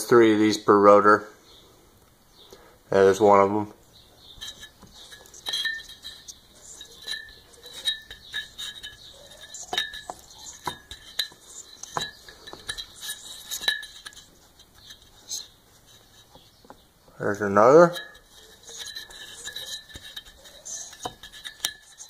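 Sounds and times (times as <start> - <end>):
light metallic clicks and clinks: 4.3 - 22.0.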